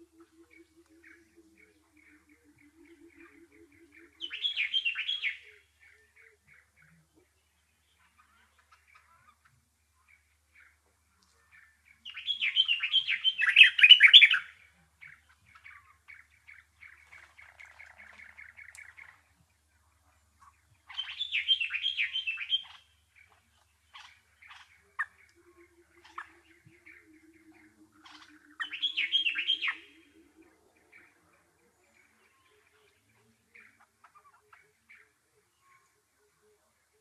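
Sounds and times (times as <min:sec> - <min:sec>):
songbird warbling: 0:00.0 - 0:09.5, 0:11.5 - 0:19.4, 0:20.2 - 0:35.9.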